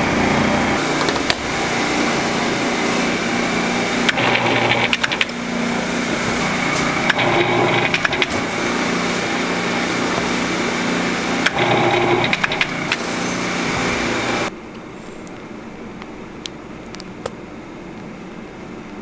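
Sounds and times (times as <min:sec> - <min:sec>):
machine humming and whining: 0:00.0 - 0:19.0.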